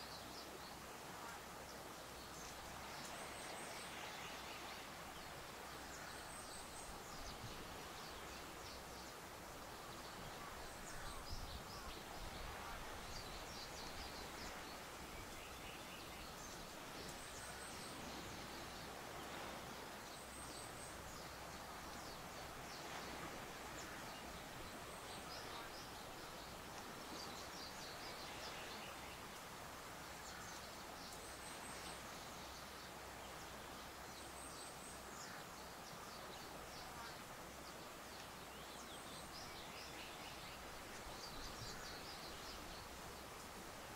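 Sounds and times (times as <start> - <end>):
breeze through tall grass: 0.0 - 43.9.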